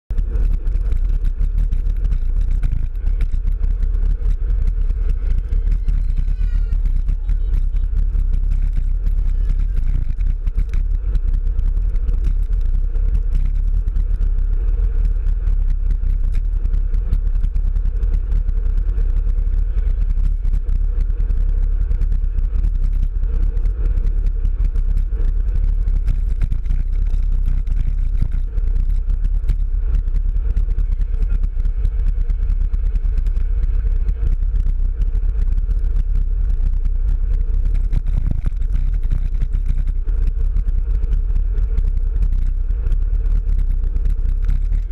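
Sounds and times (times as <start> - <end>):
tyre noise on asphalt: 0.1 - 44.9
wind buffeting microphone: 0.1 - 44.9.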